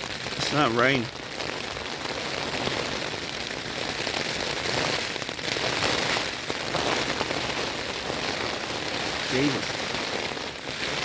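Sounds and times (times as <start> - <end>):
rain pattering on tent fabric: 0.0 - 11.0.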